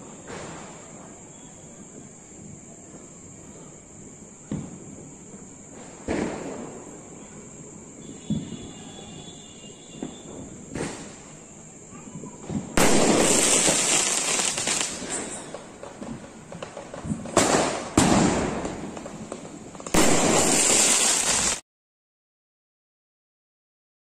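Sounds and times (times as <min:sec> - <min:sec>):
fireworks blasts: 0:00.0 - 0:21.6.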